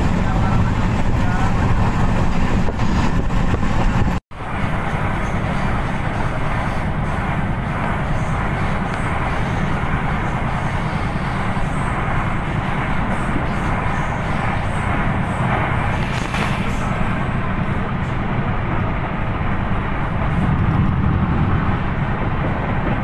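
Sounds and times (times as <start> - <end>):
rushing air: 0.0 - 23.0
train wheels rumbling on rails: 0.0 - 23.0.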